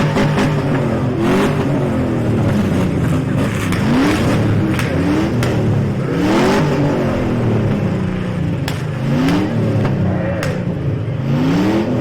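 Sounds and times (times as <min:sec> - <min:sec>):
sharp bangs: 0:00.0 - 0:11.6
truck engines revving: 0:00.0 - 0:12.0.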